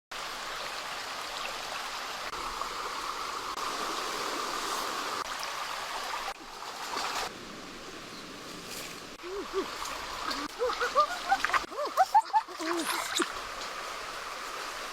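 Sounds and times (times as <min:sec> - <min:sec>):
running water rushing: 0:00.1 - 0:14.9.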